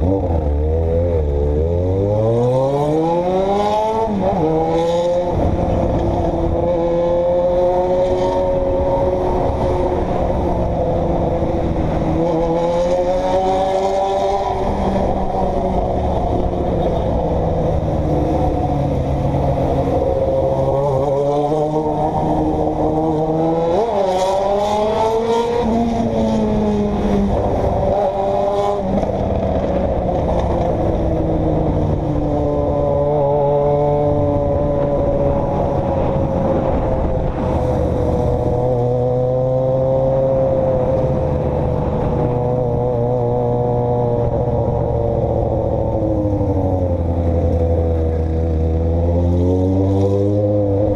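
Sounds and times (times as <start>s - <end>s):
road noise rumble: 0.0s - 50.9s.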